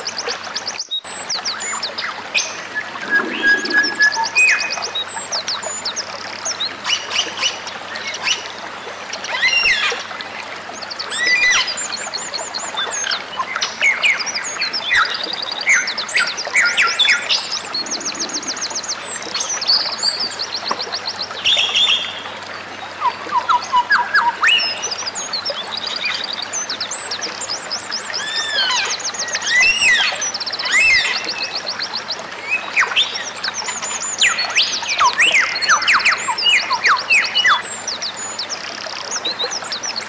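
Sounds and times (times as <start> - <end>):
songbirds singing: 0.0 - 8.1, 10.8 - 40.0.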